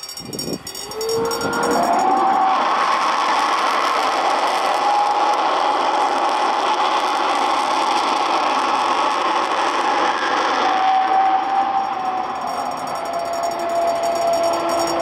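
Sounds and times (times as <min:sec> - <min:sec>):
jet engine howling: 0:00.0 - 0:15.0.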